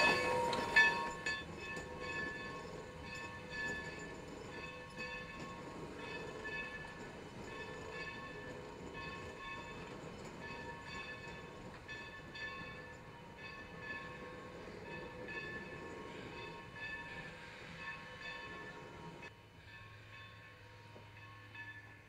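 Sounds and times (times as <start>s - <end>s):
steam engine rumble: 0.0s - 20.2s
locomotive bell ringing: 0.0s - 22.0s.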